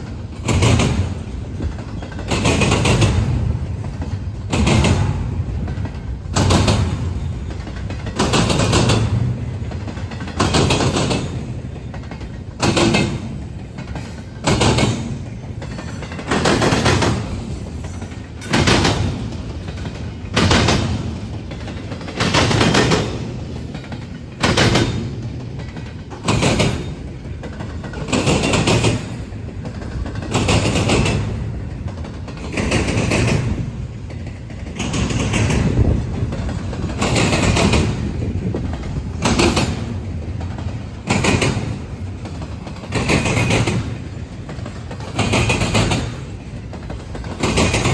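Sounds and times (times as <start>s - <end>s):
train rolling rumble: 0.0s - 47.9s
train wheels clanking: 0.0s - 47.9s.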